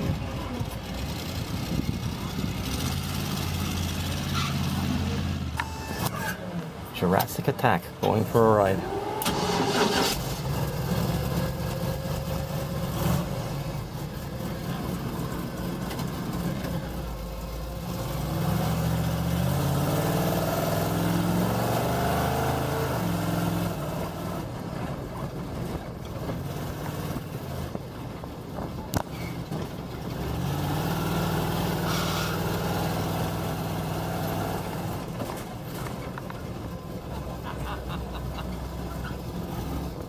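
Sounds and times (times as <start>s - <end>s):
truck engine revving: 0.0s - 6.5s, 8.6s - 27.8s, 28.9s - 36.0s.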